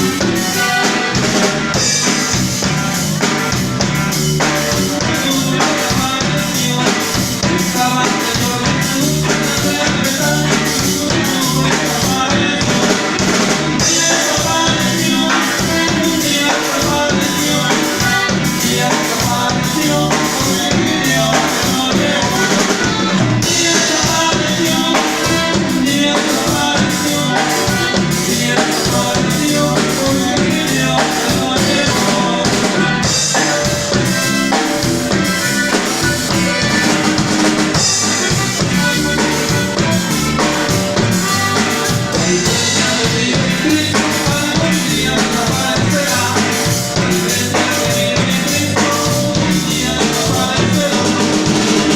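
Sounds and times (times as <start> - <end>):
music with drum-kit beat: 0.0 - 51.9.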